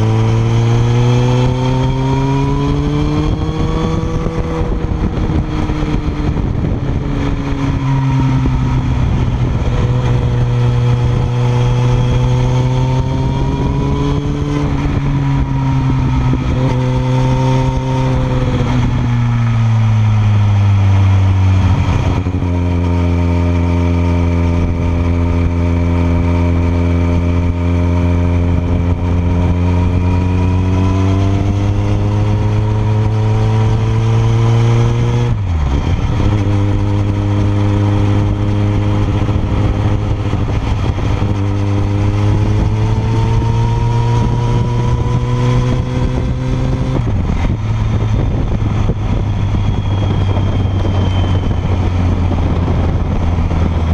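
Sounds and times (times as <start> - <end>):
motorcycle engine revving: 0.0 - 53.9
wind rushing: 0.0 - 53.9.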